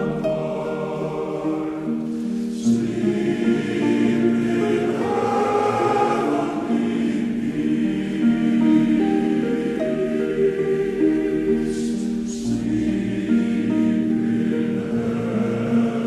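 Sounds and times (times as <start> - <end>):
choir singing a carol: 0.0 - 16.0.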